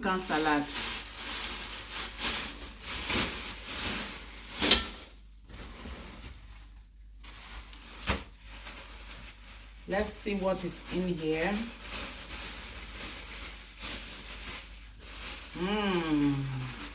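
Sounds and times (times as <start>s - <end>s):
plastic packaging crinkling: 0.0s - 16.9s.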